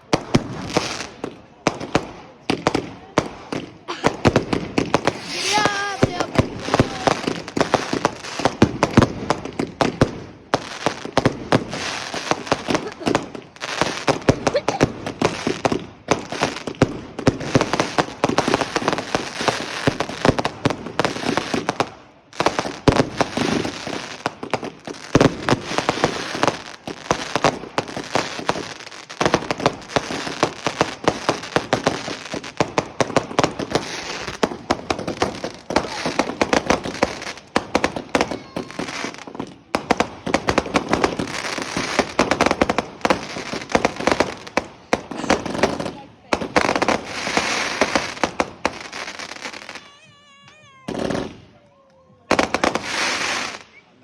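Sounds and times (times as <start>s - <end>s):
fireworks crackling bangs: 0.0s - 51.6s, 52.2s - 54.0s.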